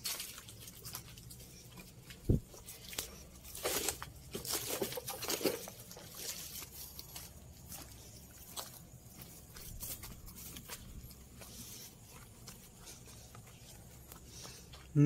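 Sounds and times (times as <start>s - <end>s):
leaves and branches rustling: 0.0s - 14.9s.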